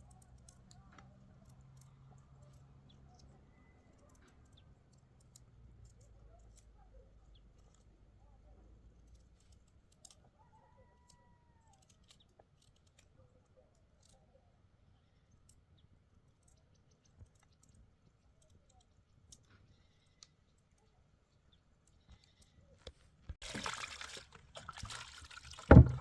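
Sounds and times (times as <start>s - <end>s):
faint clicks and ticks: 0.0s - 8.2s, 8.8s - 14.3s, 15.0s - 23.4s.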